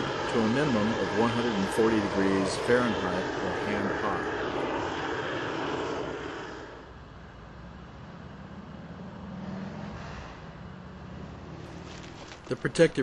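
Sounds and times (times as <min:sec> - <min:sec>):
gas torch flame roaring: 0:00.0 - 0:13.0.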